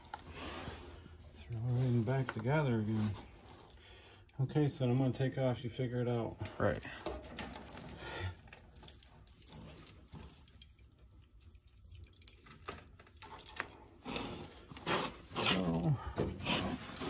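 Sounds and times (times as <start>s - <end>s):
rustling of insulated wires: 0.0s - 17.0s.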